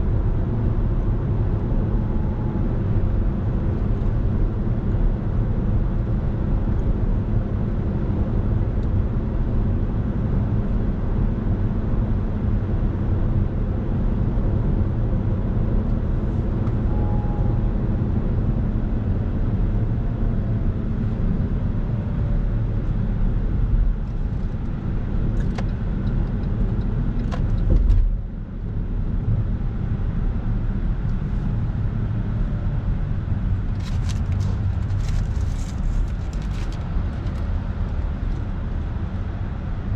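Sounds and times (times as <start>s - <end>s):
road and tyre noise in car: 0.0s - 39.9s.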